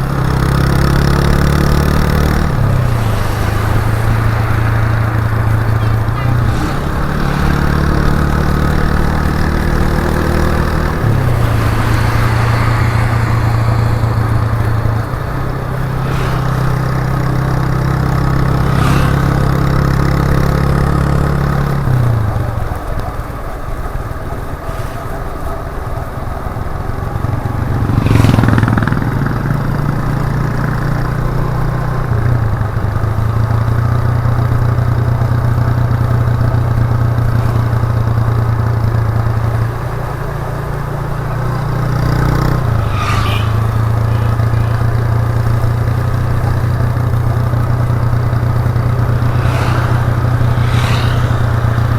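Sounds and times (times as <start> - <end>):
motorcycle engine running: 0.0 - 24.6, 25.6 - 51.9.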